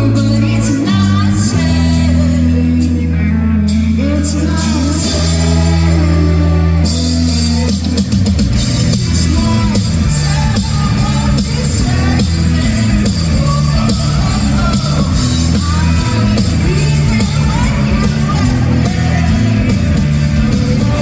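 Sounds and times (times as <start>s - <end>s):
woman singing: 0.0s - 6.9s, 9.1s - 21.0s
bass notes: 0.0s - 21.0s
electric guitar: 0.0s - 21.0s
drums and cymbals: 3.7s - 21.0s.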